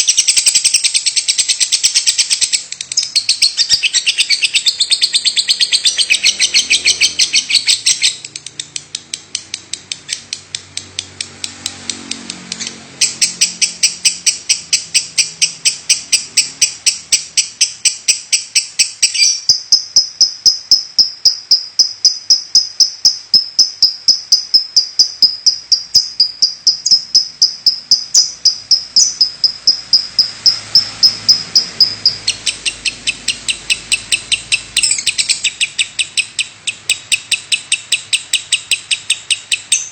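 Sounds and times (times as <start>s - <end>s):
lovebird fast-pulsing trill: 0.0s - 8.2s, 13.0s - 39.9s
lovebird chirping: 0.0s - 39.9s.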